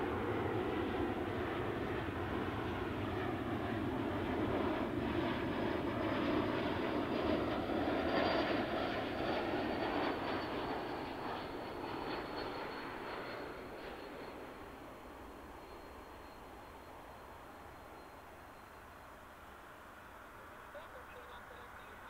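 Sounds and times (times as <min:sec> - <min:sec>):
faint high engine whine: 0:00.0 - 0:22.0.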